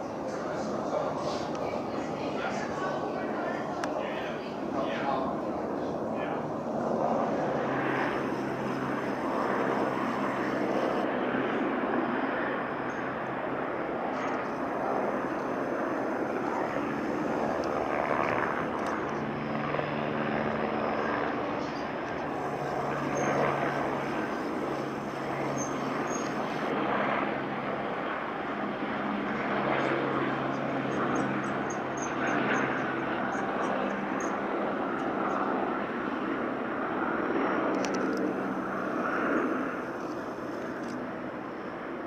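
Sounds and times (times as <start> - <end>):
distant helicopter drone: 0.0 - 42.0.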